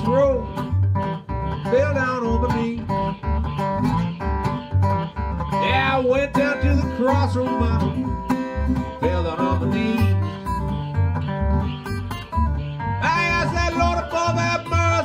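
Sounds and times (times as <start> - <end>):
acoustic guitar playing: 0.0 - 15.0
bending lead melody: 0.0 - 15.0
washtub bass plucking: 0.0 - 15.0.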